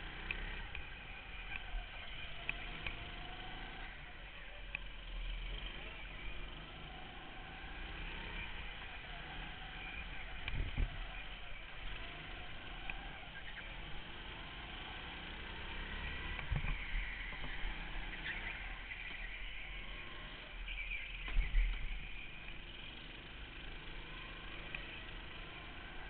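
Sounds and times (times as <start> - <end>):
go-kart engine running: 0.0 - 26.0
other kart engines: 0.0 - 26.0.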